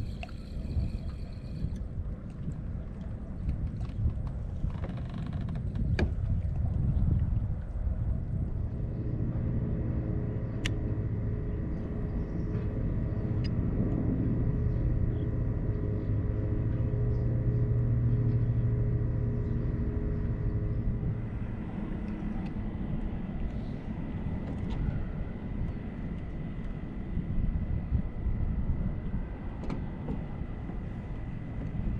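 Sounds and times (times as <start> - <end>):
low engine hum: 0.0 - 31.9.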